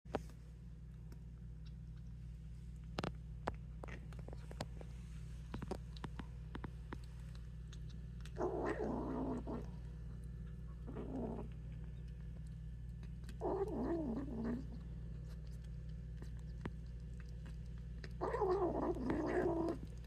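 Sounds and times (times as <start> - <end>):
kitten eating: 0.2 - 20.0.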